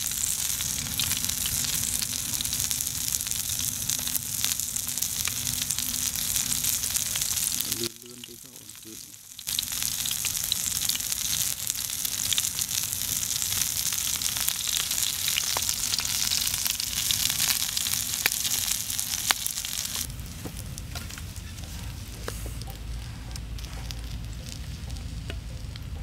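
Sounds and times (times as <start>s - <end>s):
fish sizzling in a pan: 0.0s - 25.8s.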